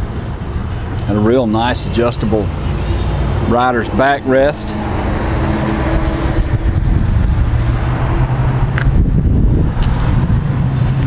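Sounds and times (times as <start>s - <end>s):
low rumble with droning hum: 0.0s - 11.0s
wind noise on microphone: 0.0s - 11.0s.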